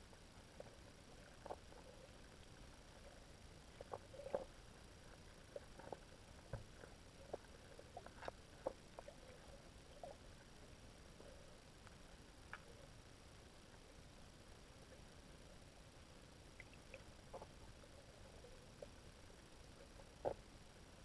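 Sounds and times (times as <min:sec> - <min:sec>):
low underwater hiss: 0:00.0 - 0:21.0.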